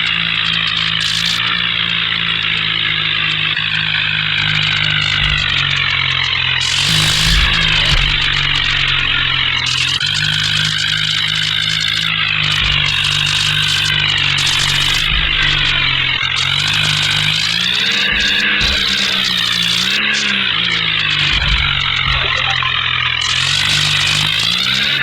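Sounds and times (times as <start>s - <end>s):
heavy vehicle engine revving: 0.0s - 25.0s.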